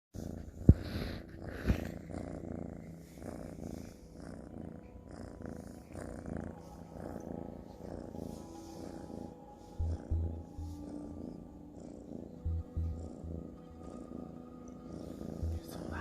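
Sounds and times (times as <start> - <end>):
kitten purring: 0.2 - 16.0.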